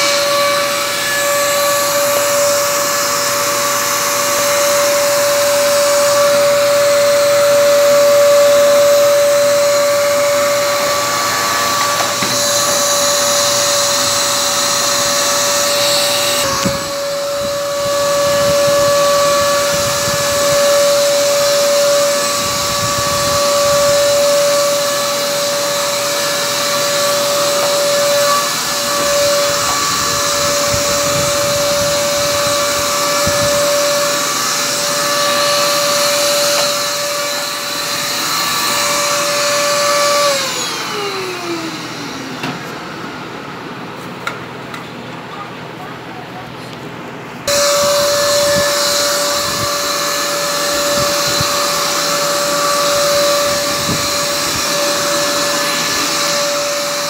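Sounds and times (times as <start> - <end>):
vacuum cleaner whining: 0.0 - 57.0.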